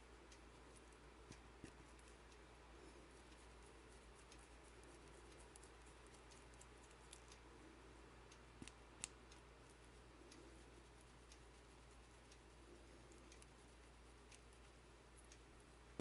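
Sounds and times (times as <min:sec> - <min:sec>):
small metal clicks and ticks: 0:00.0 - 0:07.5, 0:08.3 - 0:16.0.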